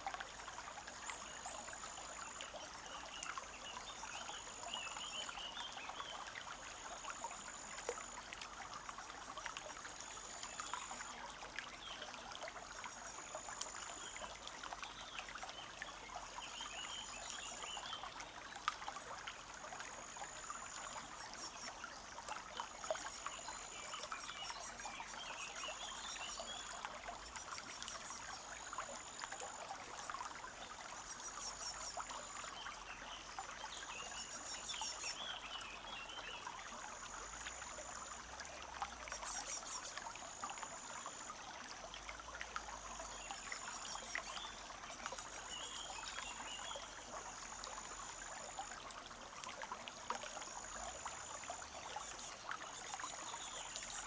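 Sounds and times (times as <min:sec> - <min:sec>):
brook trickling: 0:00.0 - 0:54.0.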